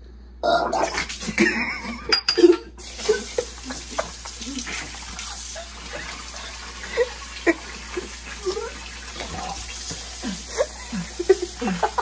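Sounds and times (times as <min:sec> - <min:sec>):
faucet pouring into plastic container: 0:00.8 - 0:01.8, 0:02.8 - 0:12.0.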